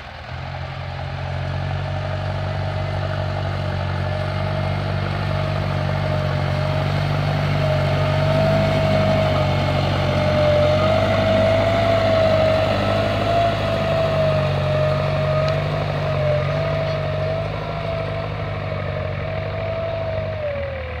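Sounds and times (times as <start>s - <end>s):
engine whine: 0.0s - 21.0s
tractor diesel engine droning: 0.0s - 21.0s.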